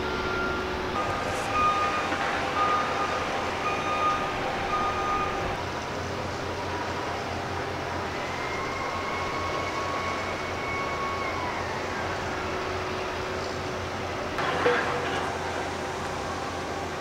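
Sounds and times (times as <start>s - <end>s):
distant city traffic: 0.0s - 17.0s
faint engine whine: 0.0s - 17.0s.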